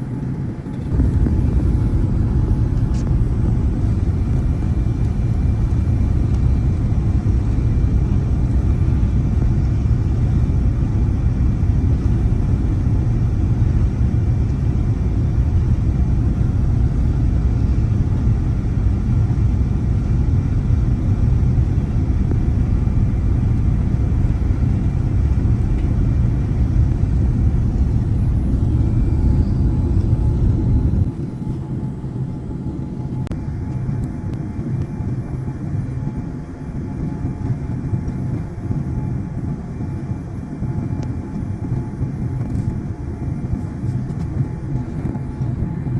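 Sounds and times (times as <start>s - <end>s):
jet engines rumbling: 0.0s - 45.9s.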